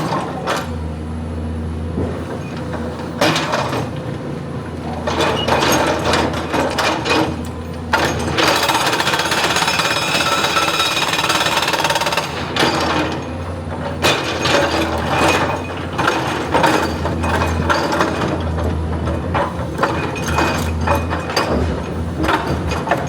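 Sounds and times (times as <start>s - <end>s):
excavator engine humming: 0.0s - 23.0s.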